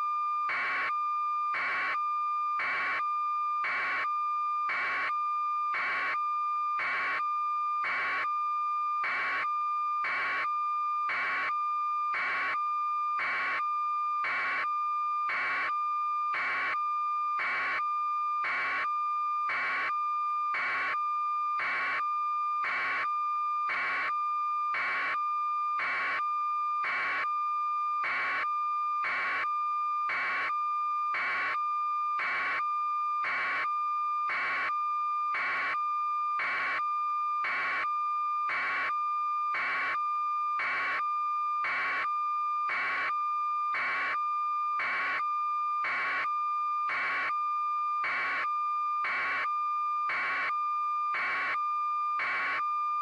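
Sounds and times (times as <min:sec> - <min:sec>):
continuous steady tone: 0:00.0 - 0:53.0.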